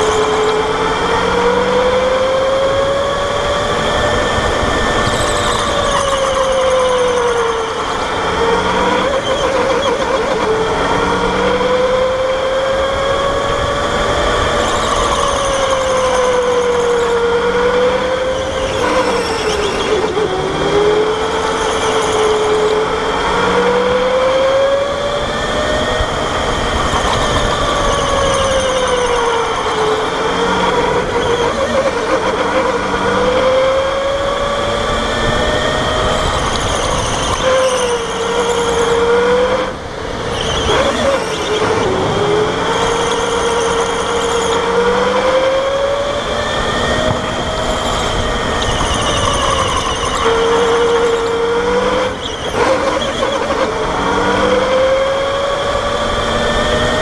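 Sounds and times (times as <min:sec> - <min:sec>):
electric go-kart motor whining: 0:00.0 - 0:57.0.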